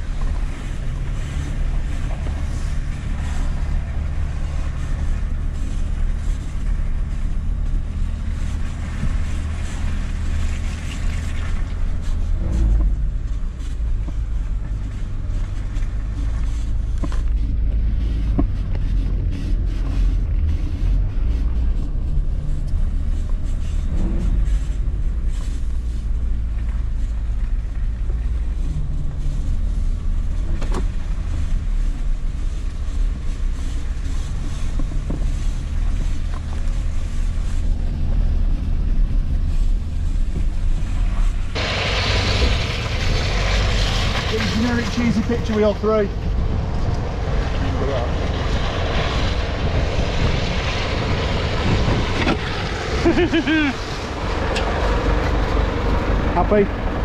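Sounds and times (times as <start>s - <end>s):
van engine low rumble: 0.0s - 57.0s.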